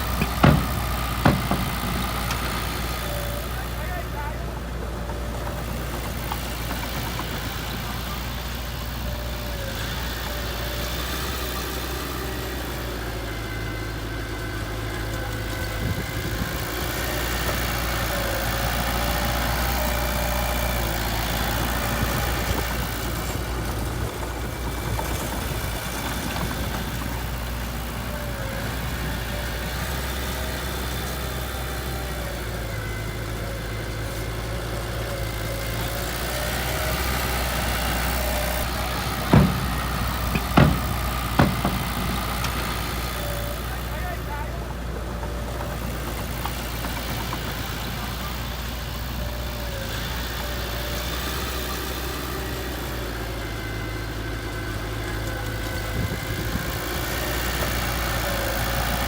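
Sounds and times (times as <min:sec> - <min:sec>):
heavy diesel engine idling: 0:00.0 - 0:59.0.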